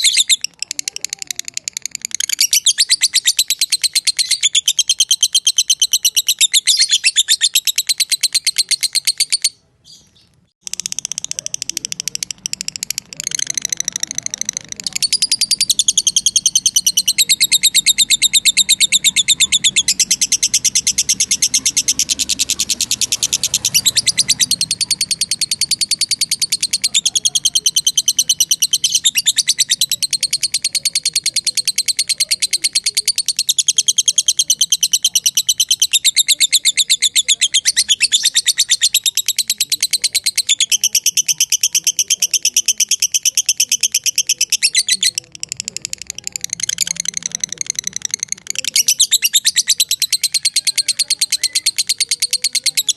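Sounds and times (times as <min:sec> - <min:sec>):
lovebird chattering trill: 0:00.0 - 0:52.9.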